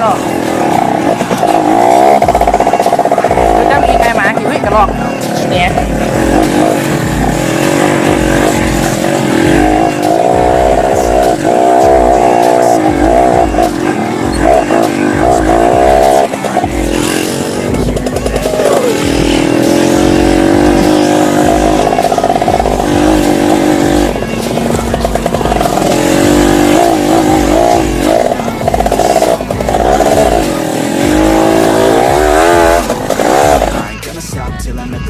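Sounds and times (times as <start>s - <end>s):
dirt bike engine revving: 0.0s - 34.2s.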